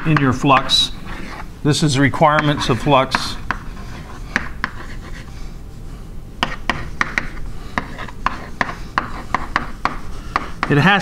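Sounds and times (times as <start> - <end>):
chalk tapping and scraping: 0.0 - 1.5, 2.1 - 5.4, 6.4 - 11.0.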